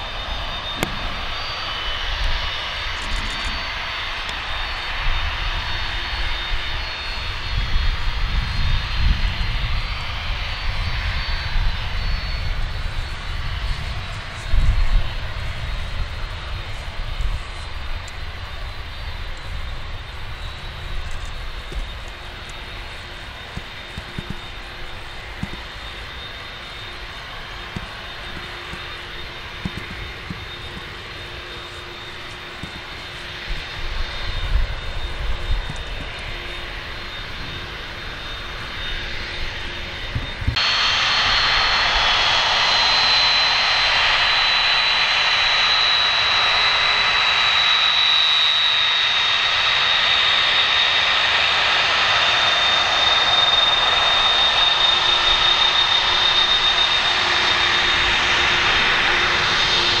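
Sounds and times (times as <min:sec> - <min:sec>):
jet engine roar with fan whine: 0:00.0 - 1:00.0.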